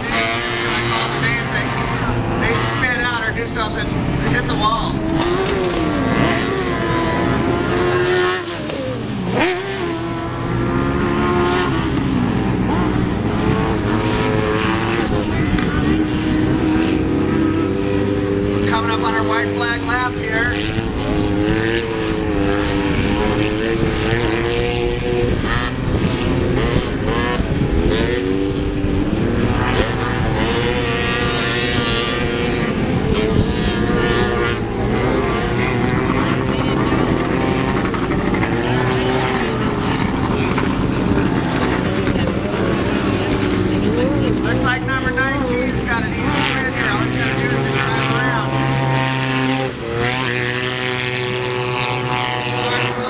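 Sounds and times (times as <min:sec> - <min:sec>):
racing buggy engine revving: 0:00.0 - 0:53.0
second engine: 0:00.0 - 0:53.0.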